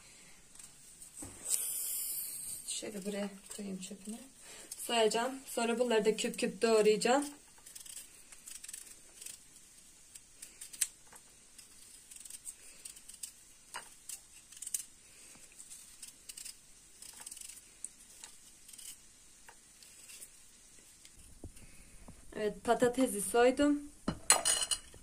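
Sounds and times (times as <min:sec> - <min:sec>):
knife peeling a potato: 0:00.5 - 0:05.2, 0:06.2 - 0:21.7.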